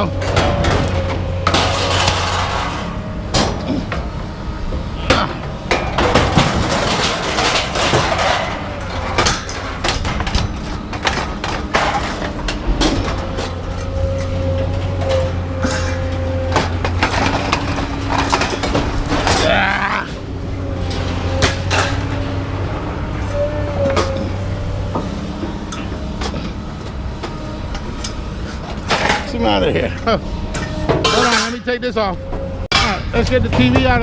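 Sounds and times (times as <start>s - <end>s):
machinery humming with whine: 0.0s - 34.0s
scrap metal clanking and crashing: 0.0s - 34.0s.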